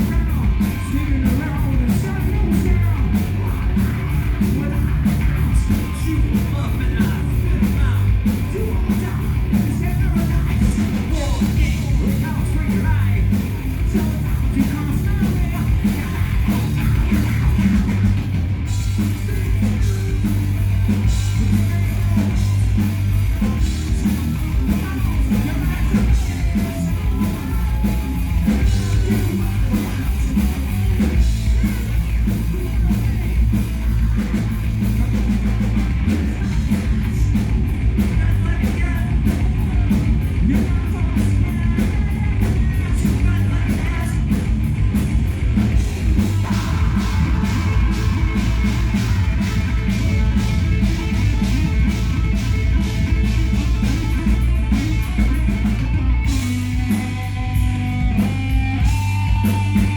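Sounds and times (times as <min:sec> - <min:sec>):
bass: 0:00.0 - 0:59.9
distorted electric guitars: 0:00.0 - 0:59.9
drums: 0:00.0 - 0:59.9
man singing and yelling: 0:00.0 - 0:59.9.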